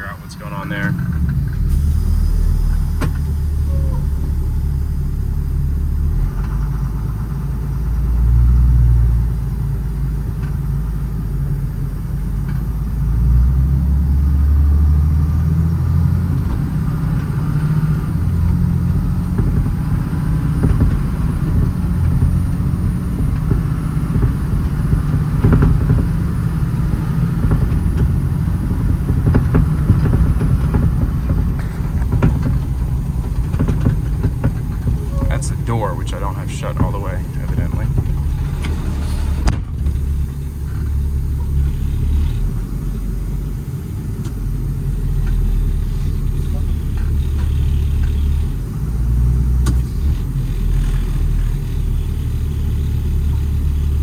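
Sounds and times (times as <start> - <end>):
diesel truck engine rumble: 0.0 - 54.0
road and drivetrain noise: 0.0 - 54.0.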